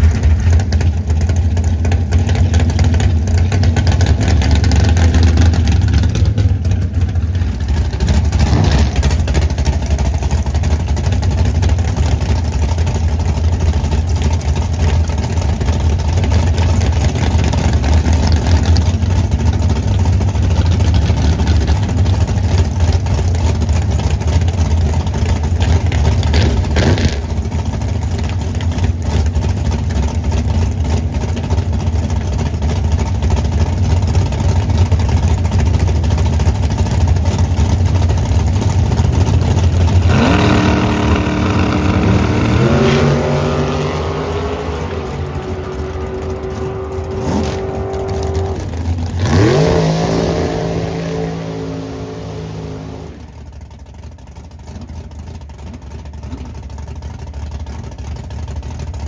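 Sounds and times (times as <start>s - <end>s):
drag race car engines: 0.0s - 59.0s.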